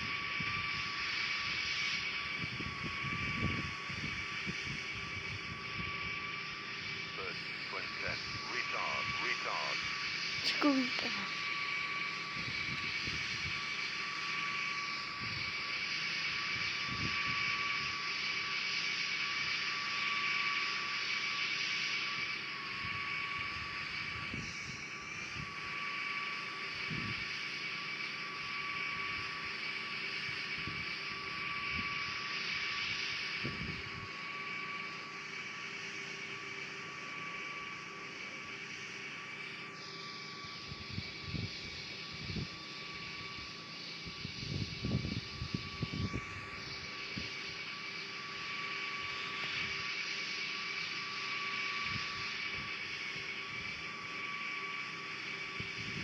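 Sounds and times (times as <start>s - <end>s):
jet engines with high whine: 0.0s - 56.0s.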